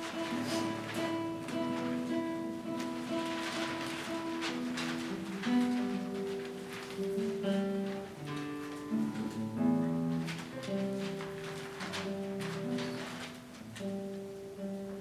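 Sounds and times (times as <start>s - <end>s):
guitar ensemble playing: 0.0s - 15.0s.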